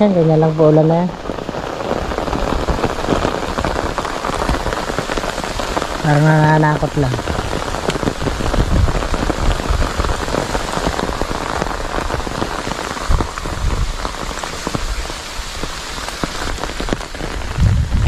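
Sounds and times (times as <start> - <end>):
rain drops on umbrella: 0.0 - 18.0.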